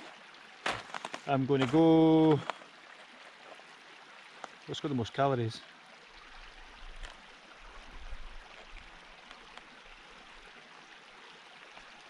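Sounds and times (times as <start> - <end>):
stream babbling over stones: 0.0 - 12.0.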